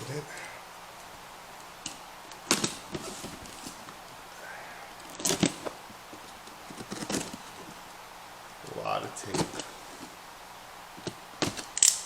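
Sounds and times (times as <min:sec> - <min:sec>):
packing tape and cardboard crackling: 0:00.0 - 0:08.0, 0:08.6 - 0:10.3, 0:10.9 - 0:12.0.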